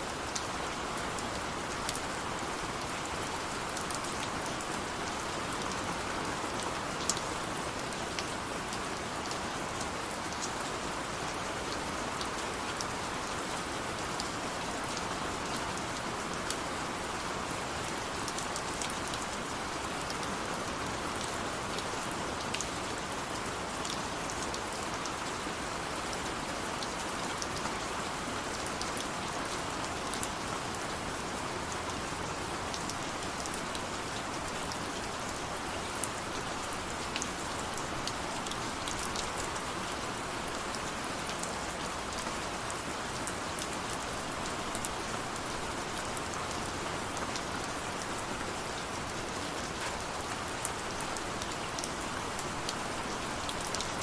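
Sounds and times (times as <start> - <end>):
steady rain patter: 0.0 - 54.0.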